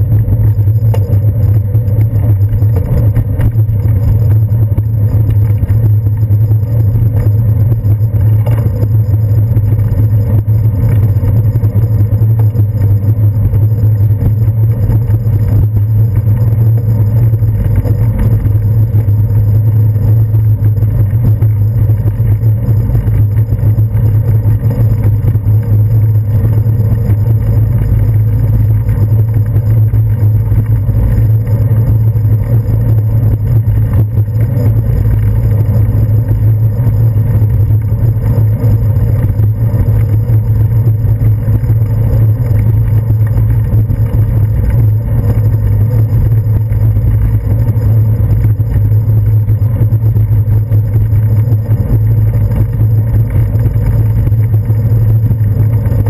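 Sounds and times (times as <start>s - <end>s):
road vibration rumble: 0.0s - 56.0s.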